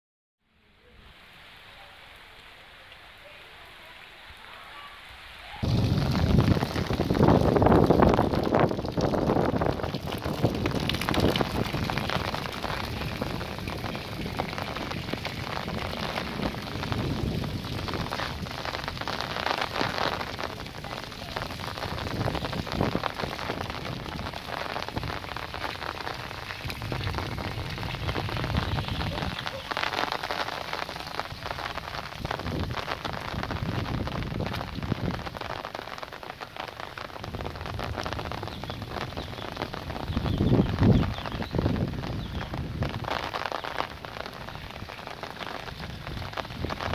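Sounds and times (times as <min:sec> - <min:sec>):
heavy rain pattering: 0:00.8 - 0:46.9
wind gusts on microphone: 0:05.6 - 0:35.9, 0:37.0 - 0:46.9.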